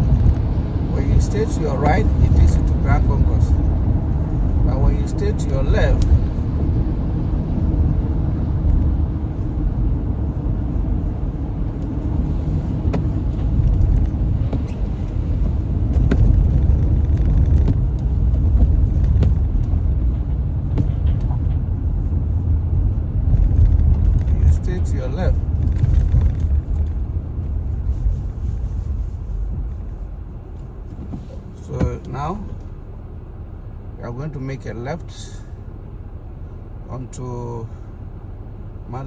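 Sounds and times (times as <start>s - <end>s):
car driving on wet roads: 0.0s - 39.0s.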